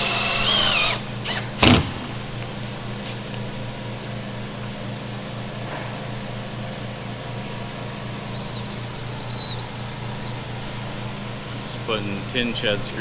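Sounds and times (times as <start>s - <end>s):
low machine hum with fast pulse: 0.0s - 13.0s.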